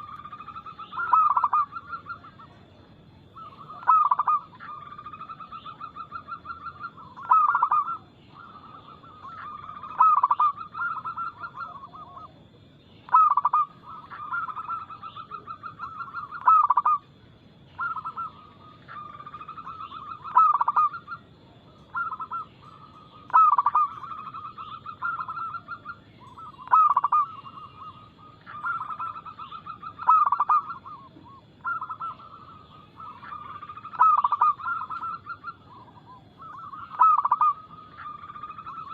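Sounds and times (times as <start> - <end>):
dove cooing: 0.0 - 12.5, 13.1 - 38.9.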